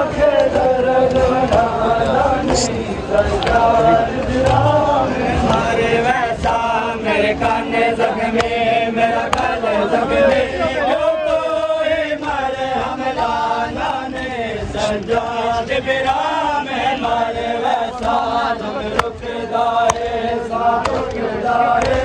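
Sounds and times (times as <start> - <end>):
men chanting a lament in unison: 0.0 - 22.0.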